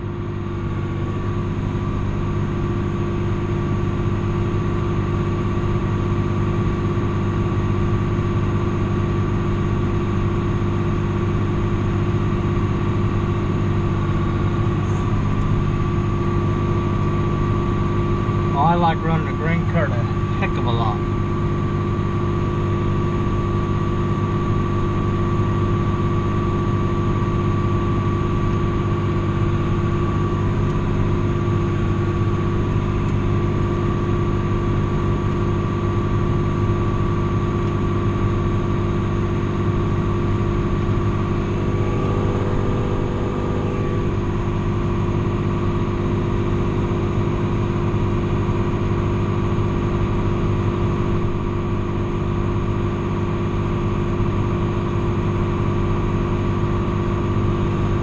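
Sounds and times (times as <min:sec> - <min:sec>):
tractor diesel engine droning: 0:00.0 - 0:58.0
steady whine: 0:06.6 - 0:58.0.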